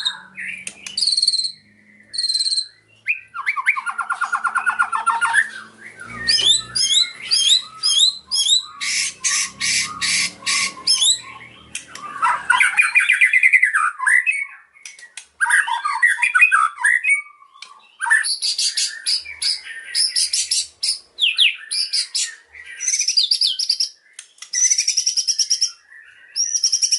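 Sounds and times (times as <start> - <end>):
songbird singing varied song: 0.0 - 26.9.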